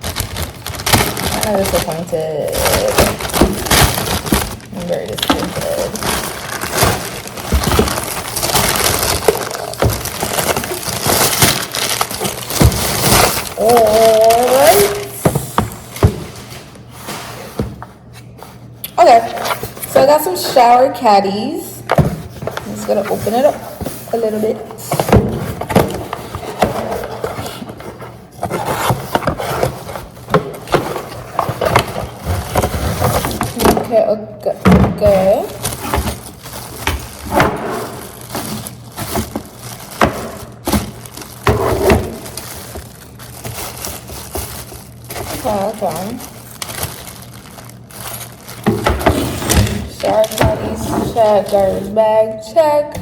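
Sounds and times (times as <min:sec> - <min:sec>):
plastic packaging crinkling: 0:00.0 - 0:17.0, 0:21.8 - 0:52.0.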